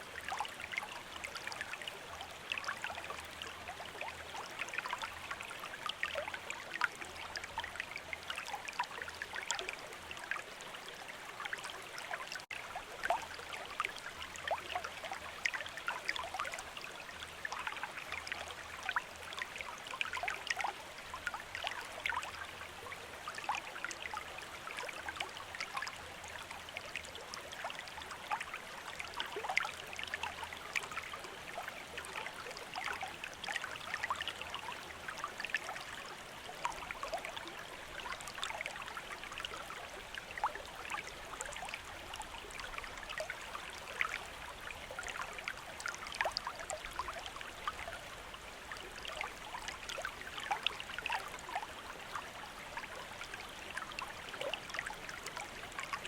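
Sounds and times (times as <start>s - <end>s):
river water running: 0.0s - 56.0s.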